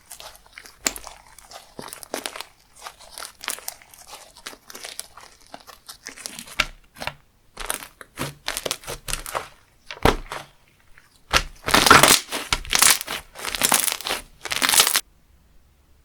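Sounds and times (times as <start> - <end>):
slime crunching and crackling: 0.0 - 15.0.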